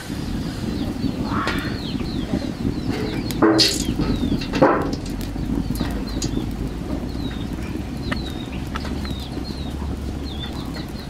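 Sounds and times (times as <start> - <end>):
low rumble: 0.0 - 11.0
small bird chirping: 0.4 - 11.0.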